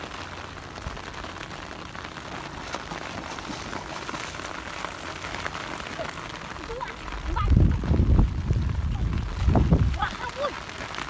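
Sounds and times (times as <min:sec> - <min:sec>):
heavy rain on water: 0:00.0 - 0:11.0
people wading and splashing: 0:00.0 - 0:11.0.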